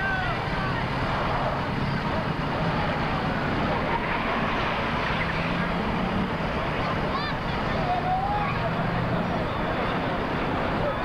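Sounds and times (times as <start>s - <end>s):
street crowd noise: 0.0s - 11.0s.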